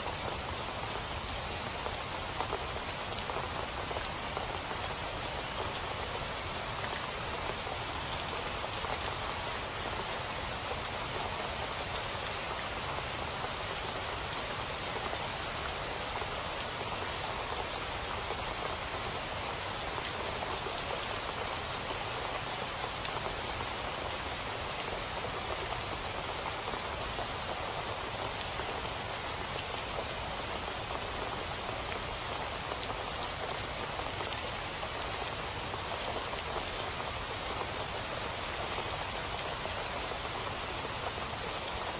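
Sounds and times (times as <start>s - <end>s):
heavy rain splashing into puddles: 0.0s - 41.9s.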